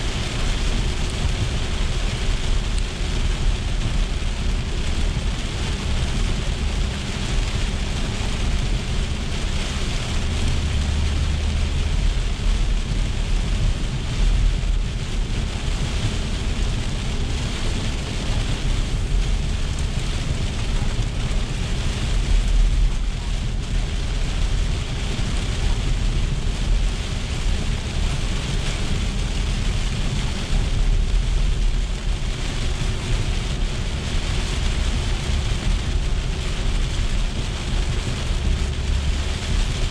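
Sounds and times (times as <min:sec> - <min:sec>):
heavy rain drumming on car roof: 0:00.0 - 0:39.9
tyres rumbling on wet road: 0:00.0 - 0:39.9.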